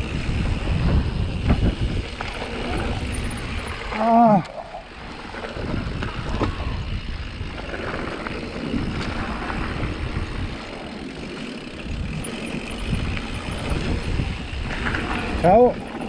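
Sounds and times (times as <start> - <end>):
bike clicks and rattles: 0.0 - 16.0
bike tyres crunching over gravel: 0.0 - 16.0
wind rumble on microphone: 0.0 - 16.0.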